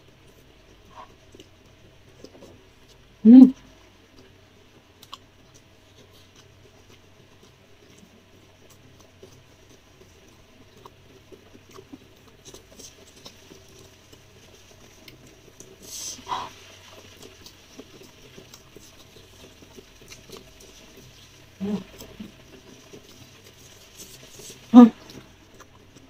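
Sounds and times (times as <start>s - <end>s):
low steady hum: 0.0s - 26.0s
person chewing: 5.0s - 26.0s.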